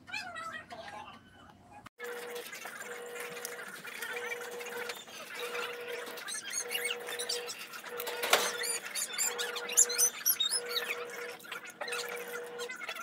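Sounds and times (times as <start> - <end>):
small birds chirping: 2.5 - 13.0.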